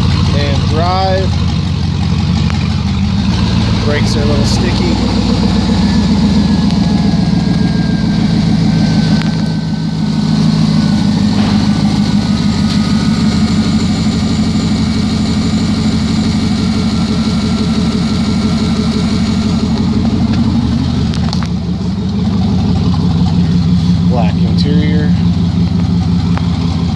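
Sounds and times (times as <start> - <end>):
loud truck engine running: 0.0 - 26.9.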